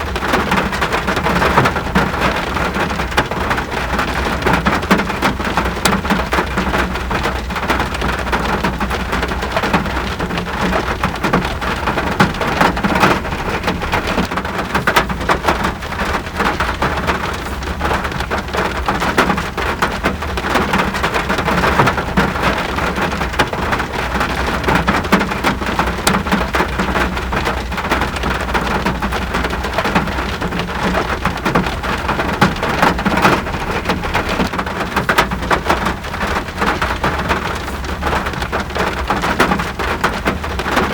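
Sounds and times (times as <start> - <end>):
raindrops hitting a surface: 0.0 - 40.9.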